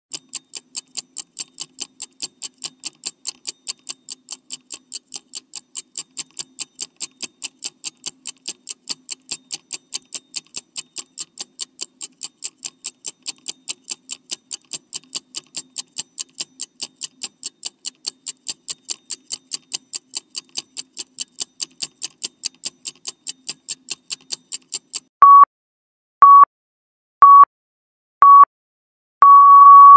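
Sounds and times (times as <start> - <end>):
clock ticking: 0.1 - 25.1.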